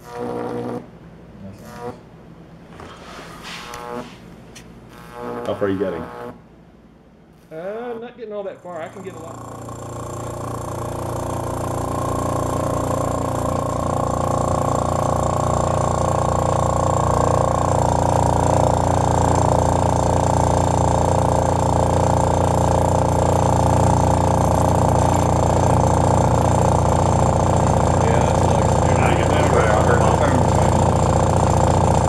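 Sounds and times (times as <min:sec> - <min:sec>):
electrical arc buzzing: 0:00.0 - 0:00.9, 0:01.5 - 0:02.1, 0:03.4 - 0:06.5, 0:07.3 - 0:32.0.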